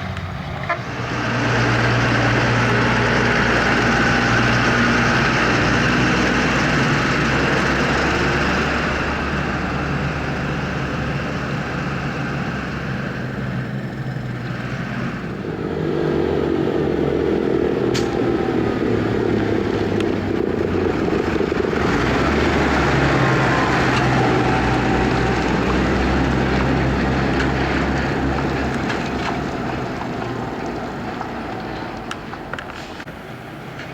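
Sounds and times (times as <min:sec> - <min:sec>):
tractor engine under load: 0:00.0 - 0:33.9
potato harvester working: 0:00.7 - 0:32.9.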